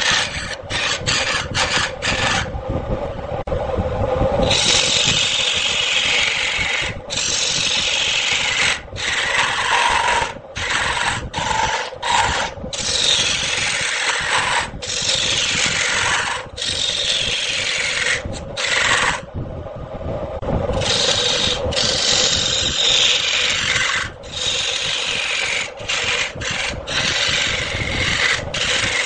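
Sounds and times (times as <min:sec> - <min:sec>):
lathe tool scraping wood: 0:00.0 - 0:02.5, 0:04.4 - 0:19.3, 0:20.7 - 0:29.0.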